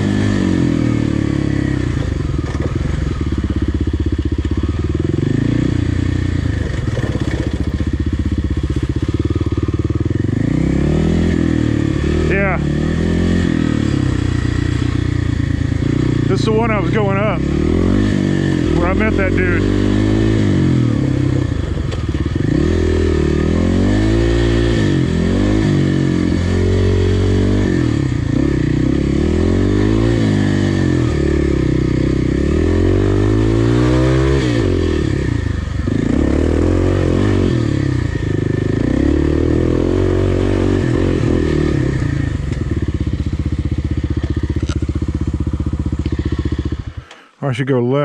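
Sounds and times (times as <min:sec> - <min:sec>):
dirt bike engine revving: 0:00.0 - 0:47.3.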